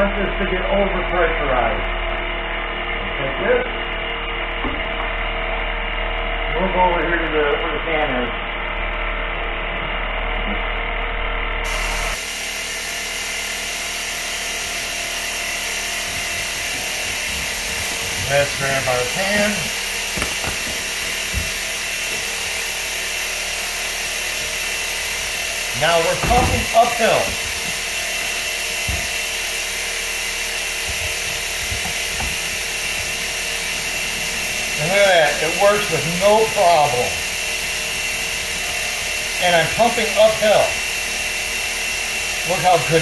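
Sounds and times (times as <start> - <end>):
shop fan running: 0.0 - 43.0.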